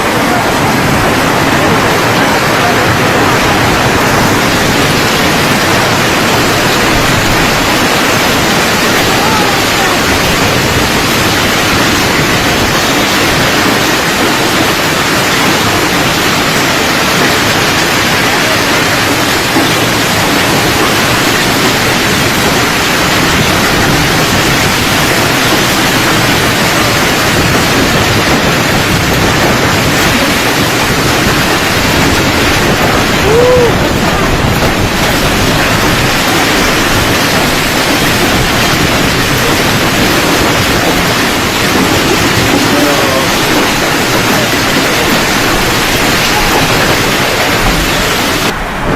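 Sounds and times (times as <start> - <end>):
storm wind buffeting microphone: 0.0 - 48.9.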